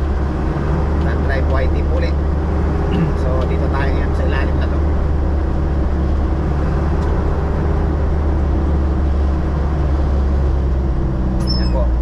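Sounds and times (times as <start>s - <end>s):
diesel engine and road noise: 0.0s - 12.0s.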